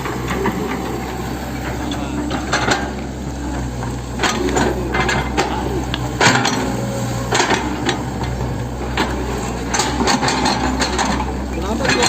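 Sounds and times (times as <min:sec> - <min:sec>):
excavator diesel engine running: 0:00.0 - 0:12.0
metallic clanks and knocks: 0:00.0 - 0:12.0.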